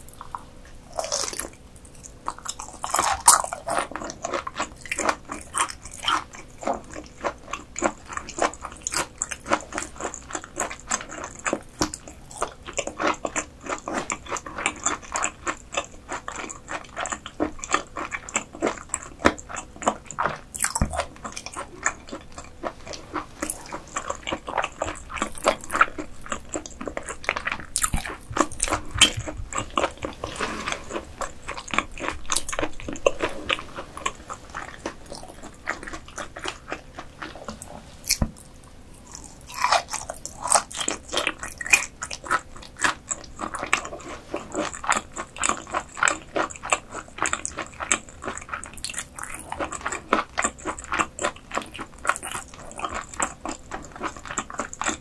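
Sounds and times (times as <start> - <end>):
person chewing wetly: 0.0 - 55.0.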